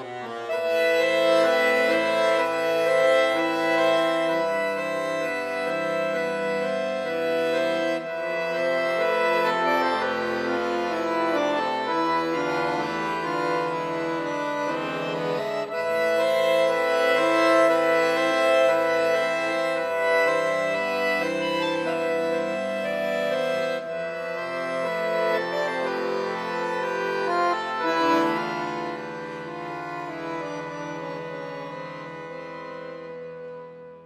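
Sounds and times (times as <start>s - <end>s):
accordion playing held chords: 0.0s - 34.0s.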